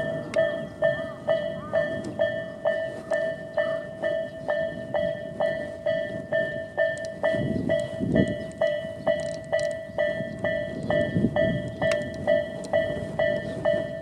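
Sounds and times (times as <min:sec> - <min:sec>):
level-crossing bell ringing: 0:00.0 - 0:14.0.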